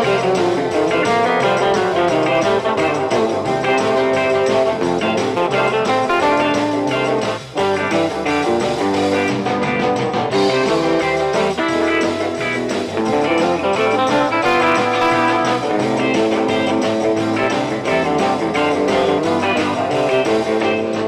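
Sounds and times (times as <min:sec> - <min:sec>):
guitar instrumental music: 0:00.0 - 0:21.0.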